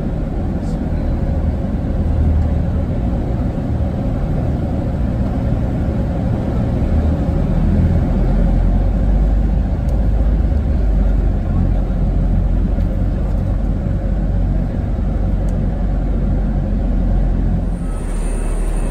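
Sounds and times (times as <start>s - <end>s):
bus engine and road rumble: 0.0s - 18.9s.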